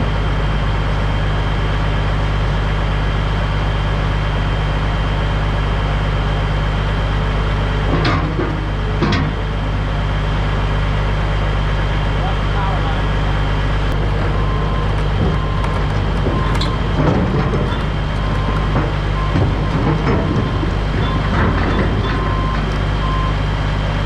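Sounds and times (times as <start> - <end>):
truck diesel engine droning: 0.0 - 24.0.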